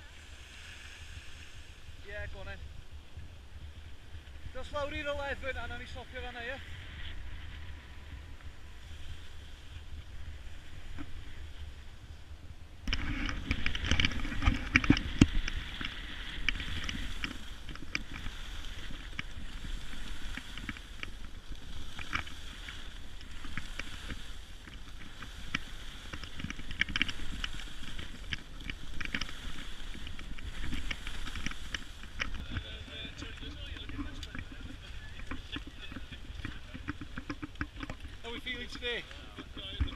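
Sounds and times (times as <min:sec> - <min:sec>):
skis scraping over snow: 0:00.0 - 0:39.9.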